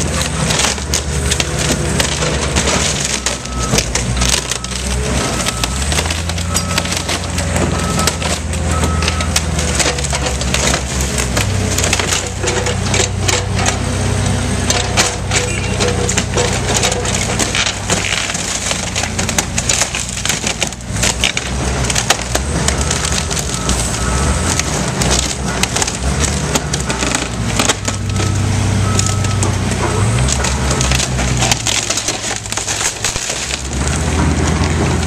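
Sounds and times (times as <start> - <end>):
diesel engine running: 0.0 - 35.0
wood cracking and snapping: 0.0 - 35.0.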